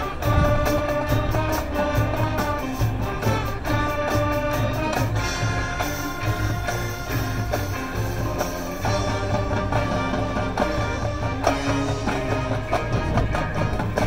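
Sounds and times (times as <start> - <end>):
marching band playing: 0.0 - 14.0
rapid drum strokes: 0.0 - 14.0.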